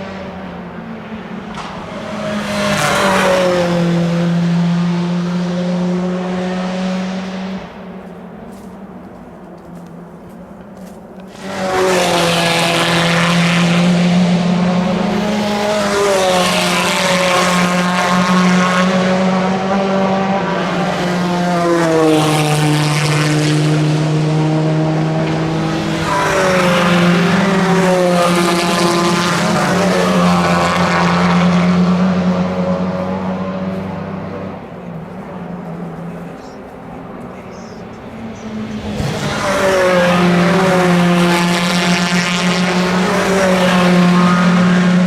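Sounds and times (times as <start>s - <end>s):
racing car engines at full throttle: 0.0s - 45.0s.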